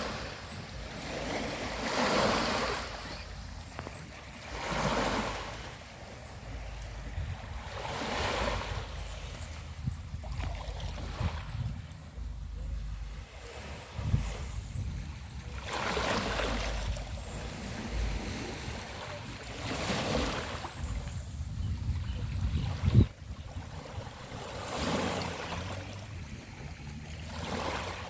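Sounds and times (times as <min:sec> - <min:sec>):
sea waves washing on a beach: 0:00.0 - 0:28.0.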